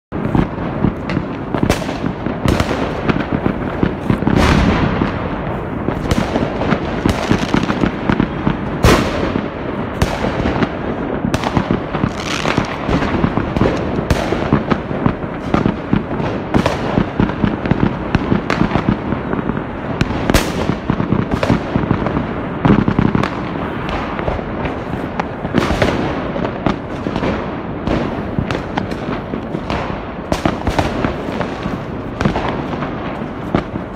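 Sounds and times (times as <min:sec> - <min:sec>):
fireworks crackling: 0:00.1 - 0:33.9
loud firework reports: 0:00.1 - 0:33.9.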